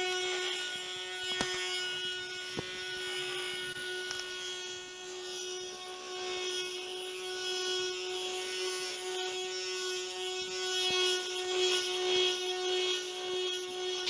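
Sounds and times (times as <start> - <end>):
small electric motor whirring: 0.0 - 14.0.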